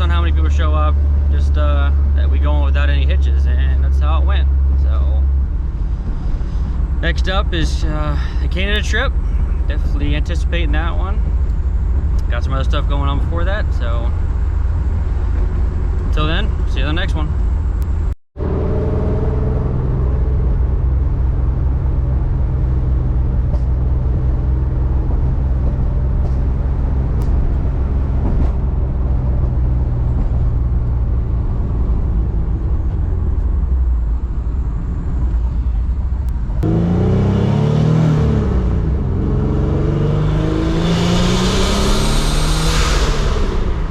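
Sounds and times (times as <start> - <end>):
car engine running and revving: 0.0 - 43.9.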